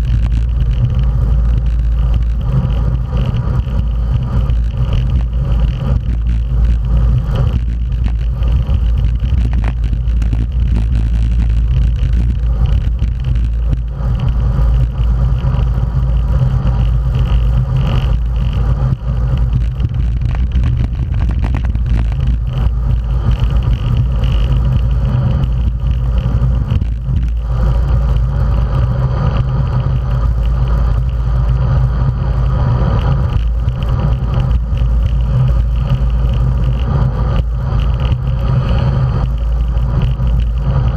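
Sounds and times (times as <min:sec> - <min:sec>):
bike tyres on asphalt: 0:00.0 - 0:40.9
wind buffeting microphone: 0:00.0 - 0:40.9.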